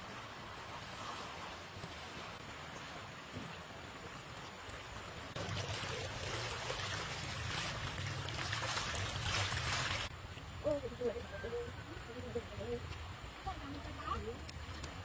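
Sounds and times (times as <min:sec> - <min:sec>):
rushing water: 0:00.0 - 0:11.3, 0:11.9 - 0:15.0.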